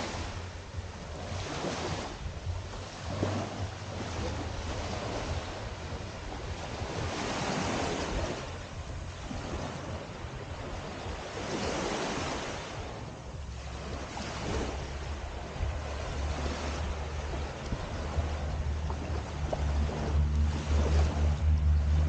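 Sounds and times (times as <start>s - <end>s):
small waves washing on sand: 0.0s - 22.0s
wind rumbling on microphone: 0.0s - 22.0s.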